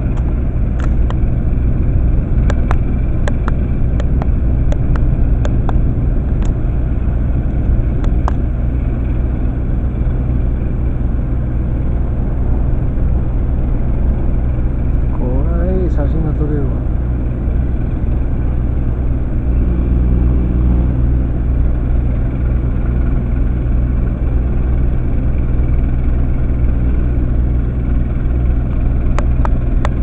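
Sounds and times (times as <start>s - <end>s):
ship engine rumbling: 0.0s - 30.0s.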